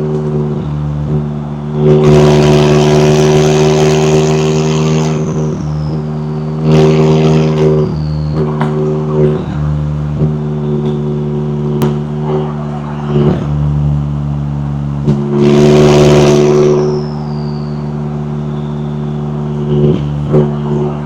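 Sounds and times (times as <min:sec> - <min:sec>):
car engine idling and revving: 0:00.0 - 0:21.0
turbo whistle: 0:00.3 - 0:13.9, 0:15.0 - 0:21.0.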